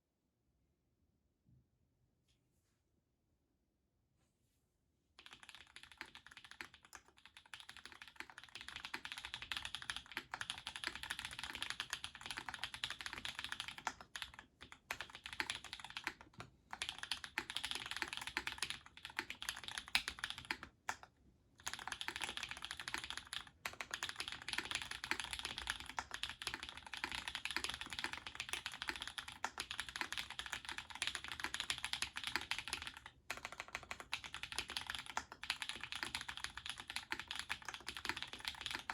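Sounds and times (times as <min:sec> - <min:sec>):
mechanical keyboard typing: 0:05.2 - 0:38.9.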